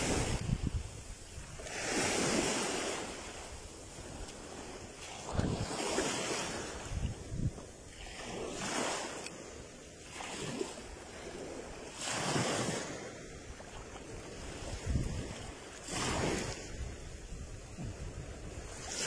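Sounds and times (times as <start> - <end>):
rough surf breaking on shore: 0.0 - 19.0
wind buffeting the microphone: 0.0 - 19.0.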